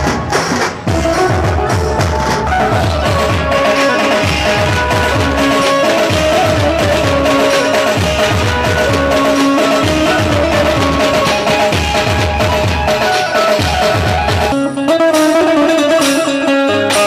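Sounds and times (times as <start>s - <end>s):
heavy drum beat: 0.0s - 14.6s.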